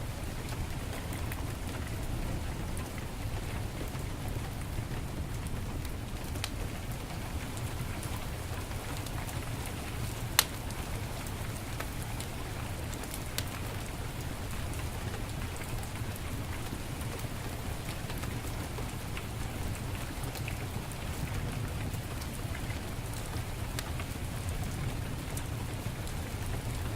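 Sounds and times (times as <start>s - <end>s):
heavy rain: 0.0s - 26.9s
wood fire crackling and popping: 0.2s - 26.9s.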